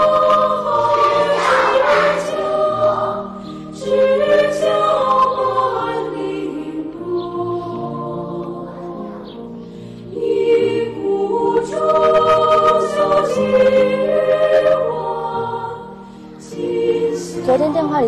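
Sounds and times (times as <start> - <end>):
choir singing held chords: 0.0 - 17.8.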